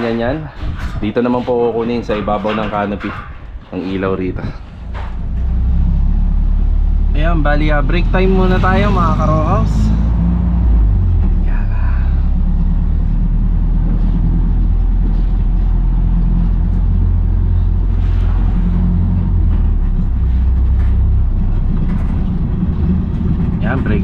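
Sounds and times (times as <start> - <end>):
engine rumble: 0.0 - 24.0
road noise: 0.0 - 24.0.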